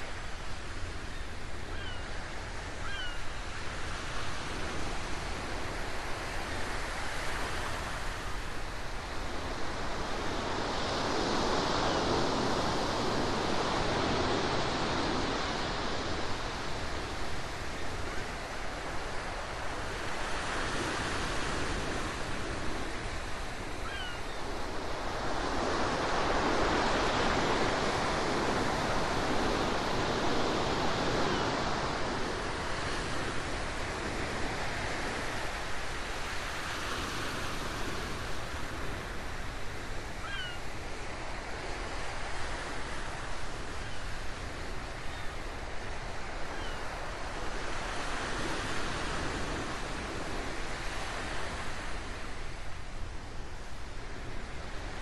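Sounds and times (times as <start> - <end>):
ocean waves washing: 2.4 - 55.0.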